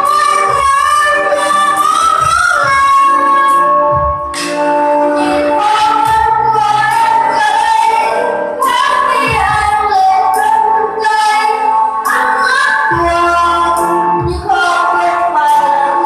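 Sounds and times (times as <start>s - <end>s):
karaoke backing track: 0.0s - 16.0s
person singing into a microphone: 0.0s - 16.0s.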